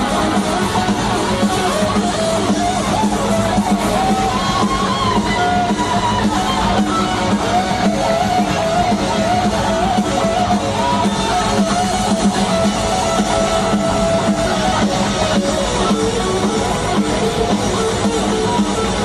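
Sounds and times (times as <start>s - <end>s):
bass guitar: 0.0s - 19.0s
drums: 0.0s - 19.0s
electric lead guitar melody: 0.0s - 19.0s.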